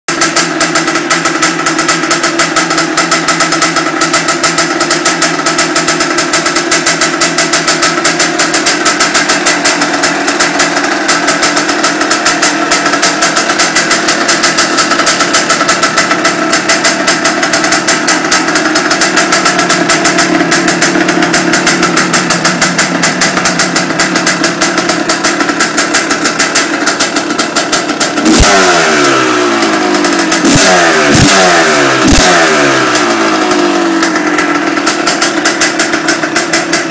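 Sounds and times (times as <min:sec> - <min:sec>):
two-stroke engine idling: 0:00.1 - 0:36.9.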